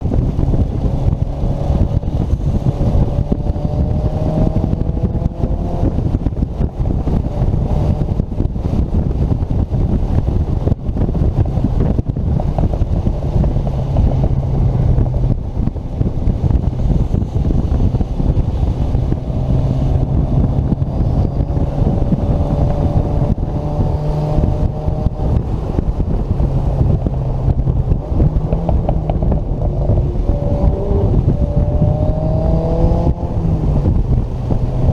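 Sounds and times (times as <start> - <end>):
car engine running hard: 0.0 - 34.9
road and wind noise: 0.0 - 34.9.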